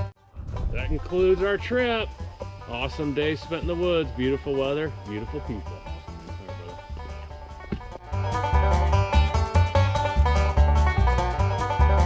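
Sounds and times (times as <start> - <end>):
music with bass beat: 0.0 - 12.0.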